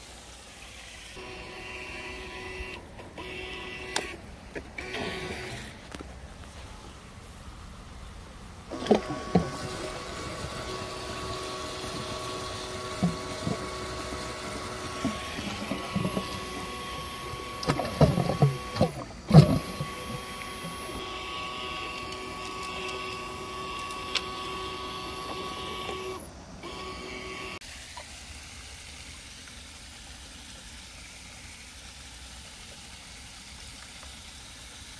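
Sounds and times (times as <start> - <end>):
pump humming: 0.0 - 6.0, 8.5 - 34.9
gushing water: 0.0 - 7.5, 8.3 - 25.9, 27.6 - 34.9.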